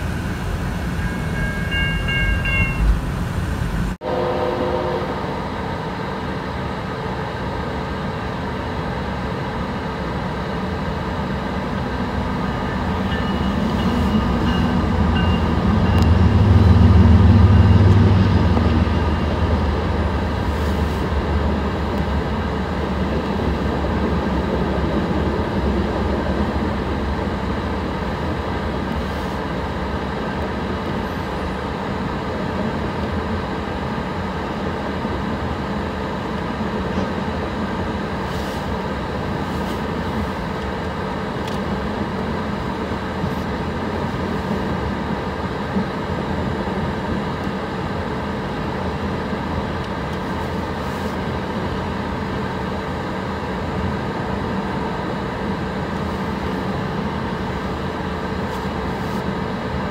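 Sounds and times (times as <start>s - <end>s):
diesel locomotive engine drone: 0.0s - 59.9s
train wheels rumbling on rail: 0.0s - 59.9s.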